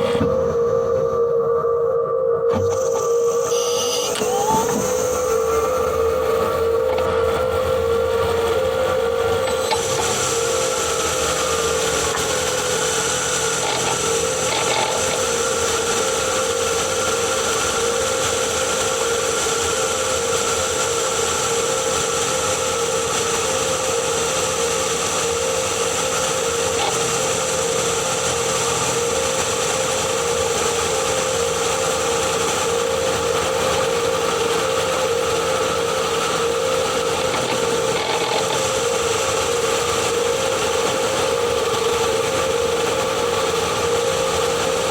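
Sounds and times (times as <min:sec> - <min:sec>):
mechanical hum: 0:00.0 - 0:44.9
transmission whine: 0:00.0 - 0:44.9.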